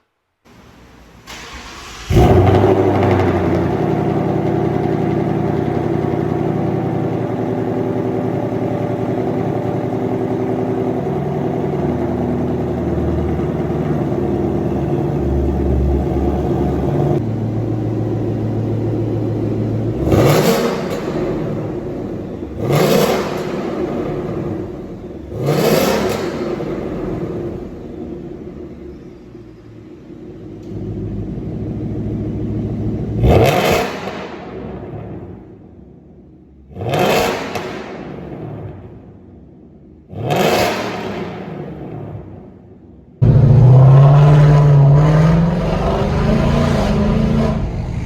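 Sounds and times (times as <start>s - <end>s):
car engine revving: 0.5s - 28.9s, 30.6s - 35.8s, 36.6s - 39.1s, 40.0s - 42.6s, 43.2s - 48.0s
car engine idling: 0.5s - 33.2s, 41.6s - 48.0s.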